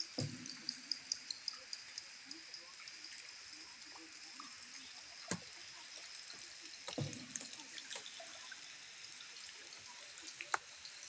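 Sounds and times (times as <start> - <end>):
faint steady hiss: 0.0 - 11.0
water dripping in a cave: 0.0 - 11.0.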